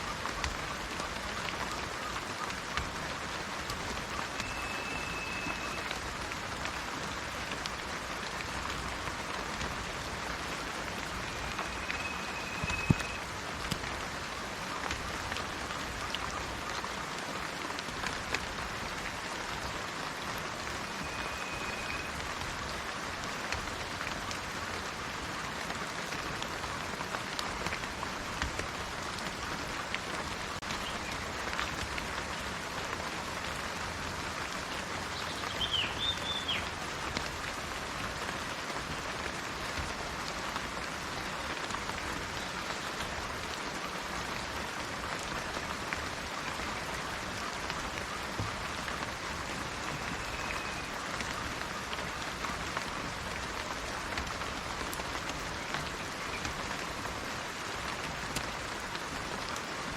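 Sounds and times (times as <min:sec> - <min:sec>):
raindrops clicking on surfaces: 0:00.0 - 0:59.9
steady rain: 0:00.0 - 0:59.9.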